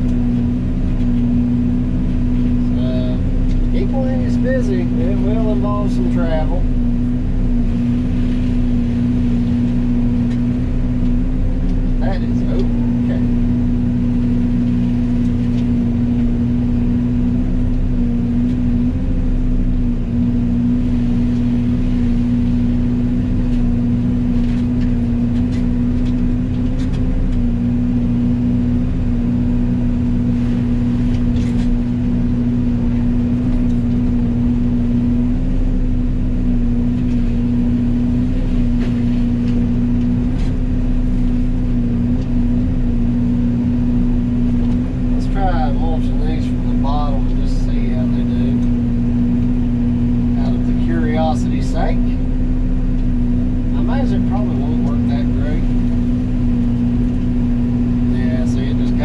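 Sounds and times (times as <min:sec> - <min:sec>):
excavator mulcher drone: 0:00.0 - 0:59.0.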